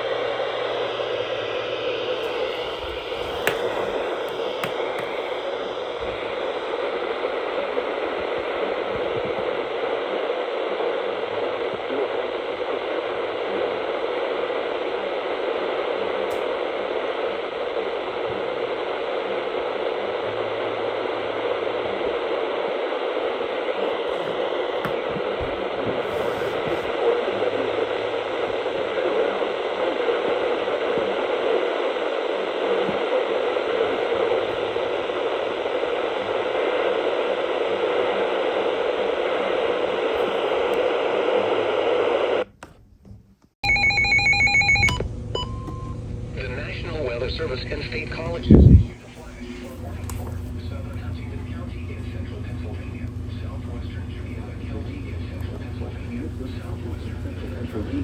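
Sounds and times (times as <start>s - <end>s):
radio static hiss: 0.0s - 42.5s, 46.0s - 58.0s.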